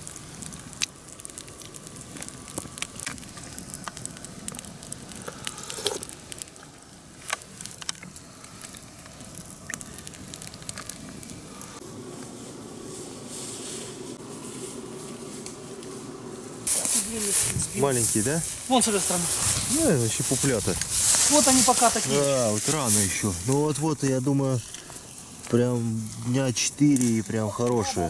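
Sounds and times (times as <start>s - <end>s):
campfire crackling and popping: 0.0s - 13.2s, 13.8s - 28.0s.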